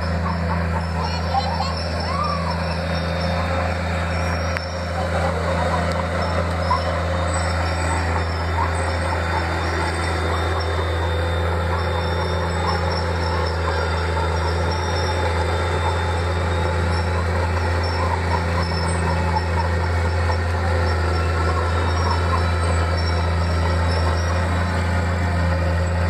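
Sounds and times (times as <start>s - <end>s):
bulldozer diesel engine under load: 0.0s - 26.0s
steel tracks clanking: 0.0s - 26.0s.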